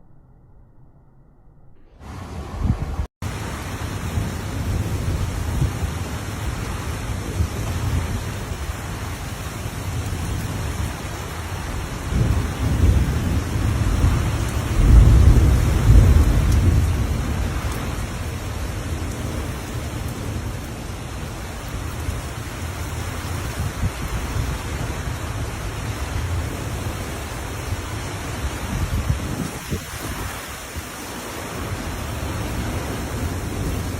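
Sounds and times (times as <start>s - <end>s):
thunder rumbling: 1.7s - 33.9s
steady rain: 2.0s - 33.9s.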